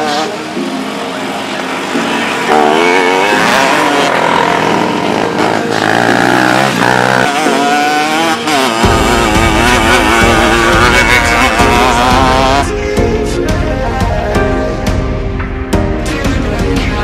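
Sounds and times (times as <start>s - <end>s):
motorcycle engines revving: 0.0s - 14.4s.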